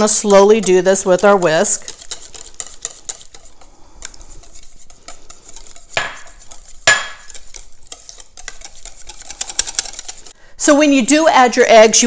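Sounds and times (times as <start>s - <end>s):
whisk scraping a ceramic bowl: 0.0s - 10.4s.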